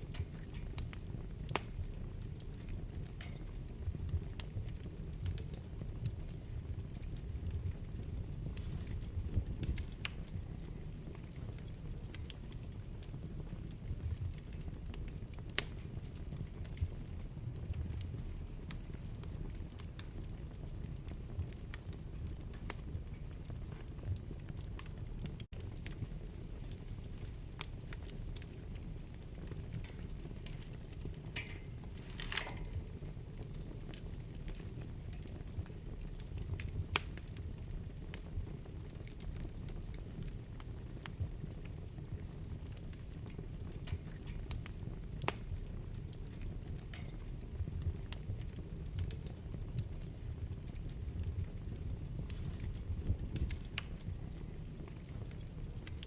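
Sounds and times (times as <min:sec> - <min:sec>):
fire rumbling: 0:00.0 - 0:56.0
wood crackling and popping: 0:00.0 - 0:56.0.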